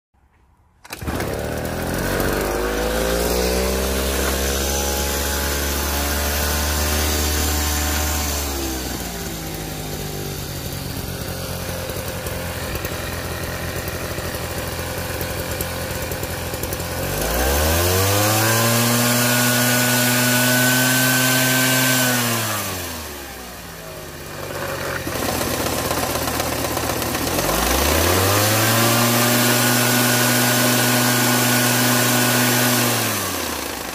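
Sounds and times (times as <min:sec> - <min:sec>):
hedge trimmer engine revving: 0:00.8 - 0:33.9.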